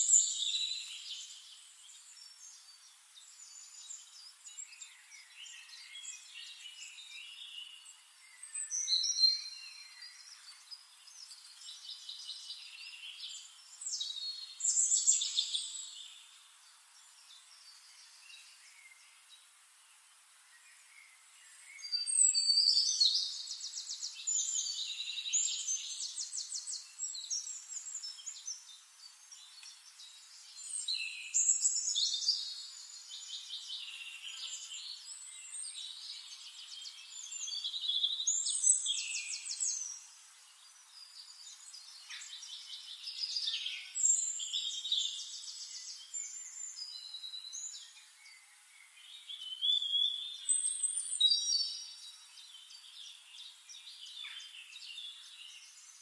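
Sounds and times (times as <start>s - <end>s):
songbirds singing and trilling: 0.0s - 56.0s.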